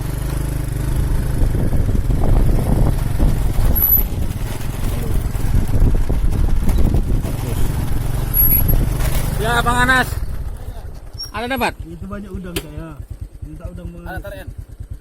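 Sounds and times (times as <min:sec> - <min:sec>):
small boat engine rumbling: 0:00.0 - 0:15.0.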